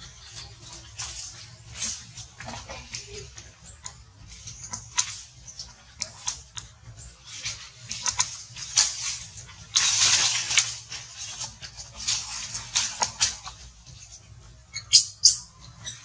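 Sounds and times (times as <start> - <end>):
leaves and twigs rustling: 0.0 - 16.0.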